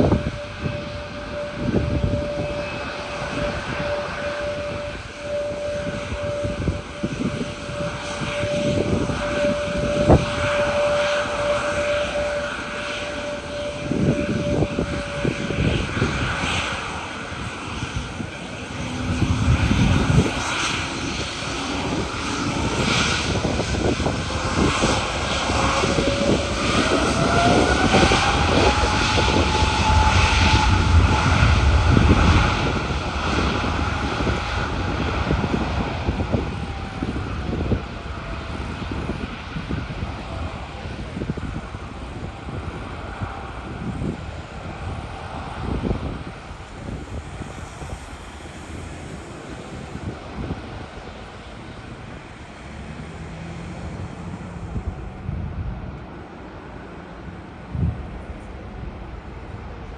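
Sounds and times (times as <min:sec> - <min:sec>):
jet engines whining: 0:00.0 - 0:59.9
wind buffeting microphone: 0:00.0 - 0:59.9.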